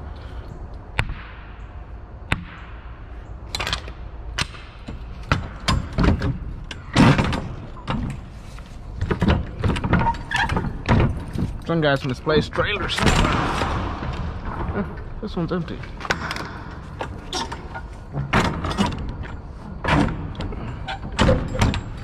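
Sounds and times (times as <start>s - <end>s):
metal door hardware clanking: 3.5s - 22.0s.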